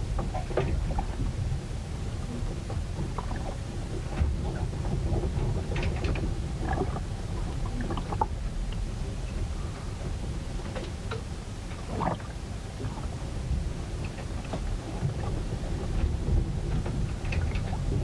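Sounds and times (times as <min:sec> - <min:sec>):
wind and water against hull: 0:00.0 - 0:18.0.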